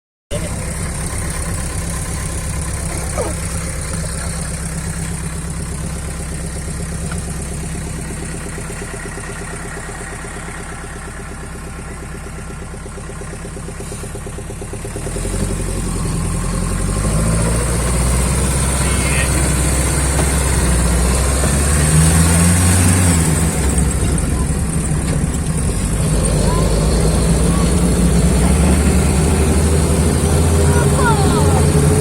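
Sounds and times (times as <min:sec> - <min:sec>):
engine running: 0:00.3 - 0:32.0.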